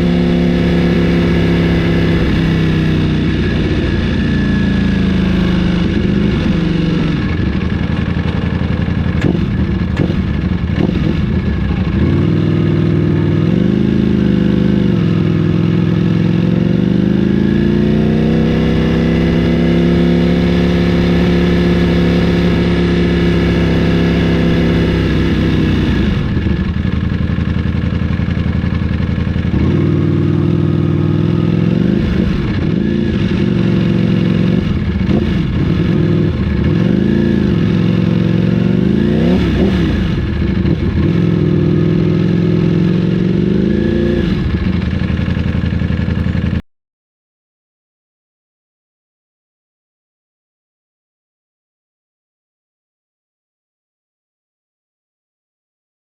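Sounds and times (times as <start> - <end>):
motorcycle engine revving: 0.0 - 46.6.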